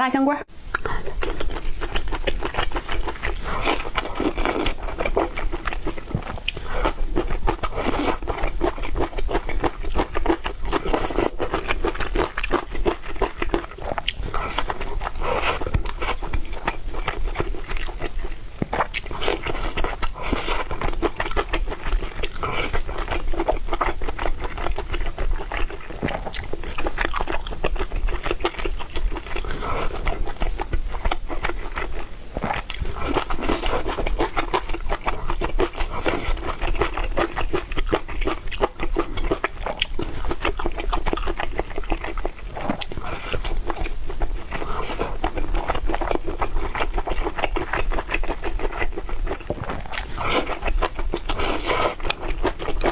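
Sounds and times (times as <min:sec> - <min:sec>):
chewing and crunching: 0:00.7 - 0:52.9.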